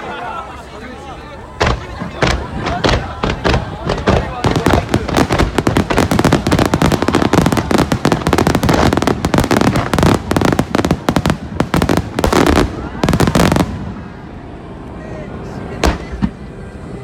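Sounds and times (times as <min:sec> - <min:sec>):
fireworks barrage: 0:01.5 - 0:14.6, 0:15.4 - 0:17.0
fireworks crackling: 0:01.5 - 0:17.0.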